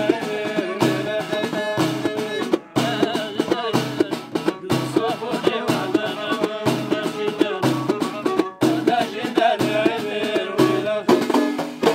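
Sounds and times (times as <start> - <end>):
frame drums beating: 0.0 - 11.9.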